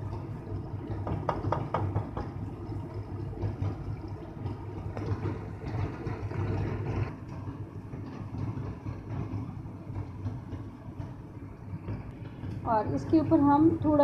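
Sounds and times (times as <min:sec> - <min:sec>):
gravy bubbling and sizzling in oil: 0:00.0 - 0:14.0
steady low hum: 0:00.0 - 0:14.0.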